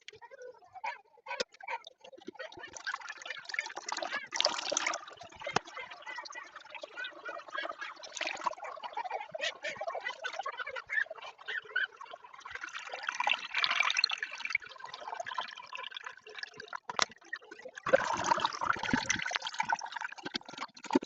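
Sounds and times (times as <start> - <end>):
water filling toilet cistern: 2.2 - 21.0.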